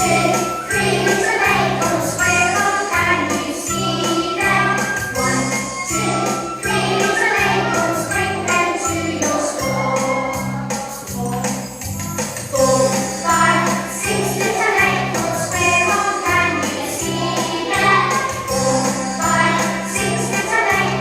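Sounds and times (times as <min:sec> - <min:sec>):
choir-like singing: 0:00.0 - 0:11.3, 0:12.5 - 0:21.0
jingling bells: 0:00.0 - 0:21.0.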